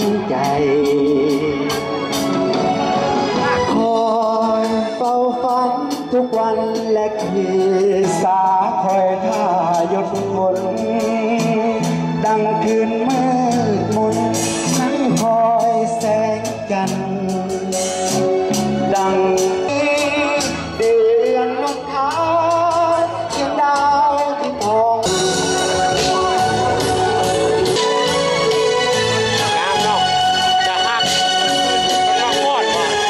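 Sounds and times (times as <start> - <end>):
bass notes: 0.0 - 33.0
drums: 0.0 - 33.0
electric guitar: 0.0 - 33.0
man singing: 0.0 - 33.0.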